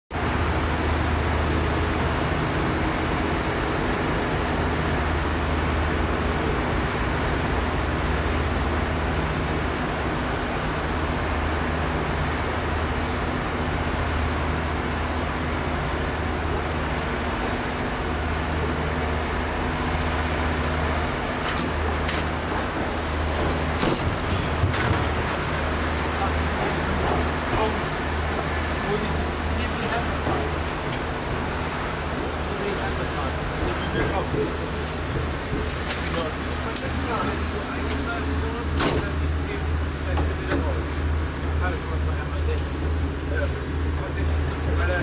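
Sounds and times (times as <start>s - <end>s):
train rumbling: 0.1s - 45.0s.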